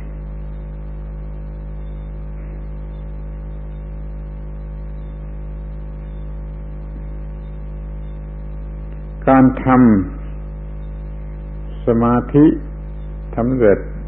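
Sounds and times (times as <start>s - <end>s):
steady hum with fixed tones: 0.0s - 14.0s.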